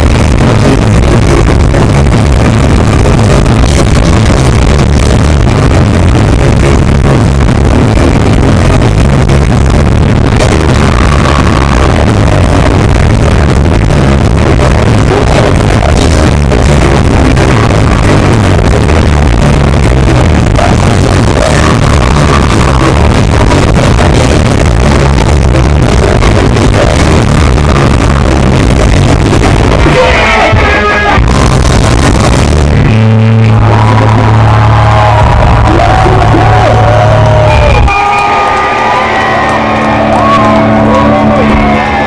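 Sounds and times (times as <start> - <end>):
punk rock band playing live: 0.0 - 42.0.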